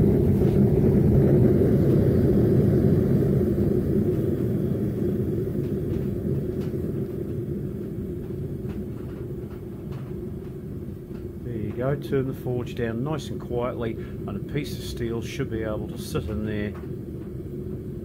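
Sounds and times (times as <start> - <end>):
gas burner rumbling: 0.0 - 18.0.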